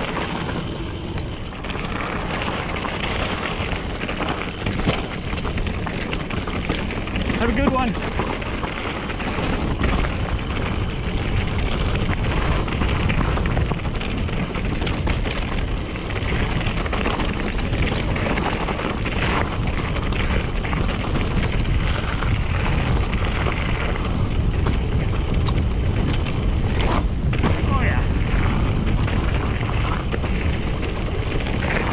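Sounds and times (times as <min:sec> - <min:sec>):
bike clicks and rattles: 0:00.0 - 0:31.9
tyres rolling on dirt: 0:00.0 - 0:31.9
wind noise on microphone: 0:00.0 - 0:31.9.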